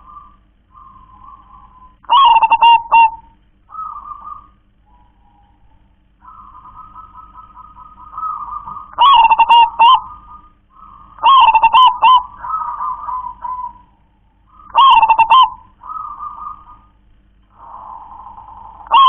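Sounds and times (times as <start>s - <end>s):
dove cooing song: 0.0s - 19.0s.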